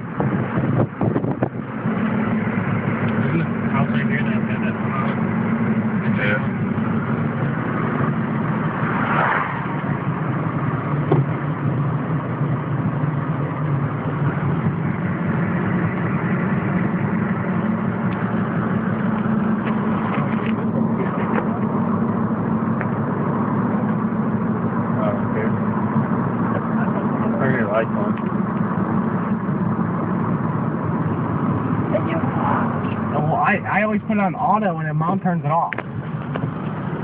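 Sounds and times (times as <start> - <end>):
car interior engine drone: 0.0 - 37.0.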